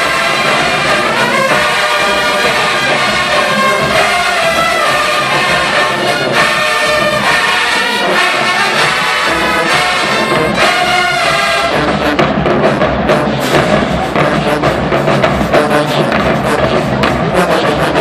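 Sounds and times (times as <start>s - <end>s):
drum line hits: 0.0s - 18.0s
marching band brass chords: 0.0s - 18.0s.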